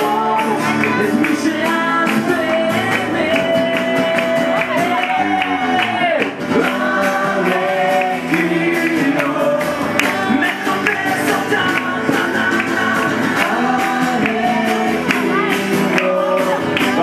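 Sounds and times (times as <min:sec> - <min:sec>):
singer singing through pa: 0:00.0 - 0:17.0
steady beat: 0:00.0 - 0:17.0
strummed acoustic guitars: 0:00.0 - 0:17.0.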